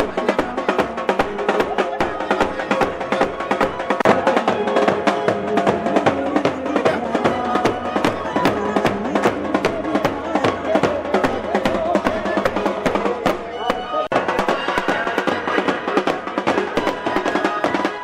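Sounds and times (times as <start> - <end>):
fast drumming: 0.0 - 18.0.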